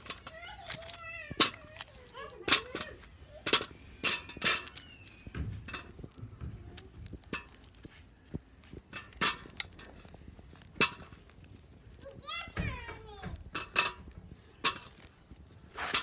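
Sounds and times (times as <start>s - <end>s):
soil scraping and rustling: 0.0s - 16.0s.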